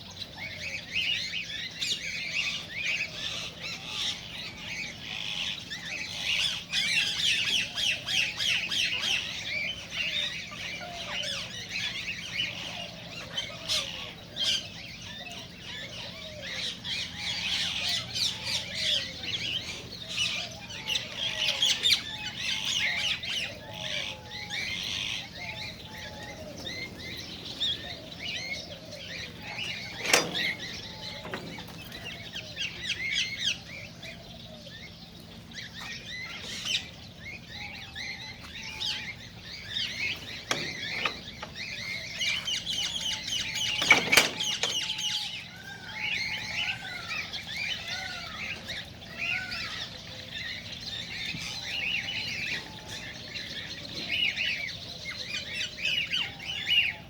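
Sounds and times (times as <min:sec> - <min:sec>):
cockatiels chirping and calling: 0:00.0 - 0:57.0.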